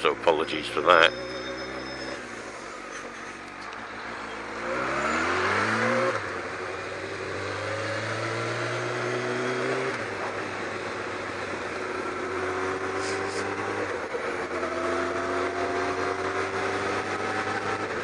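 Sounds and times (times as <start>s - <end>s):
motorcycle engine accelerating: 1.0s - 18.0s.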